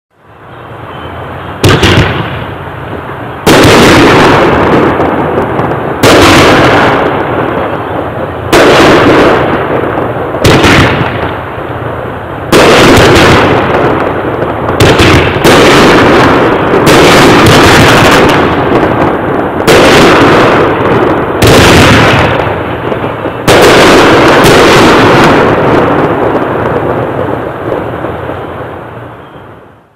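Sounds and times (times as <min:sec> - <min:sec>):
fireworks bangs with echo: 0:00.2 - 0:29.9.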